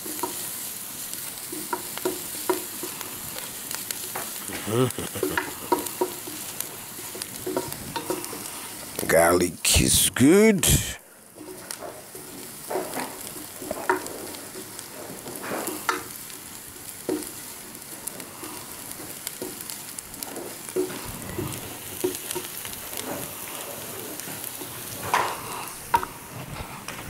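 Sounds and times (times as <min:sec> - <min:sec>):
onions sizzling in oil: 0:00.0 - 0:09.0, 0:11.2 - 0:26.5.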